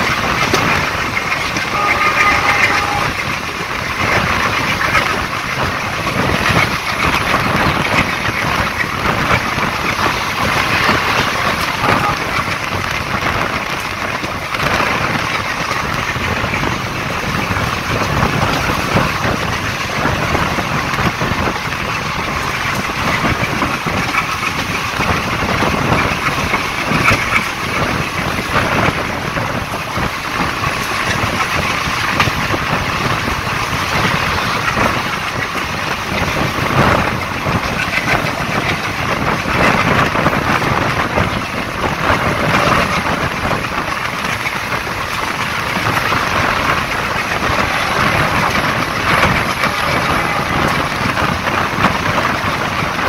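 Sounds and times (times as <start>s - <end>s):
train wheels rumbling on rail: 0.0s - 53.0s
wind noise on microphone: 0.0s - 53.0s.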